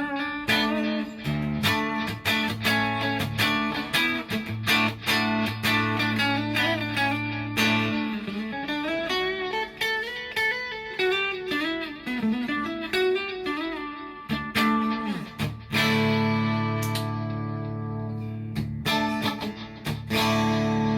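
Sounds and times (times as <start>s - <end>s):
electric guitar lead line: 0.0s - 20.9s.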